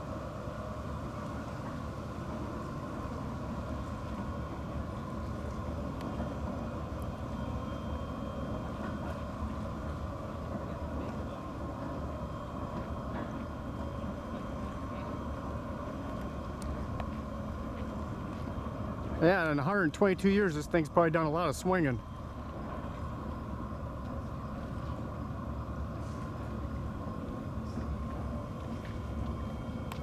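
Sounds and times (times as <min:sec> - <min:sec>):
bridge machinery rumble: 0:00.0 - 0:30.0
faint machinery whine: 0:00.0 - 0:30.0.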